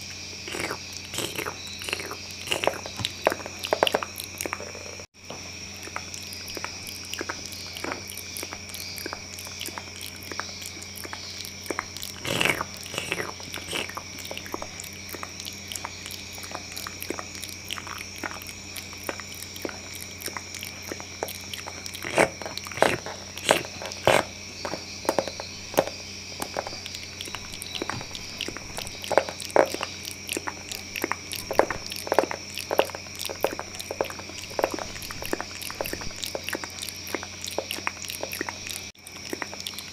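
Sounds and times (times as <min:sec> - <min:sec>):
wet mouth clicks and smacks: 0:00.0 - 0:05.1, 0:05.7 - 0:39.9.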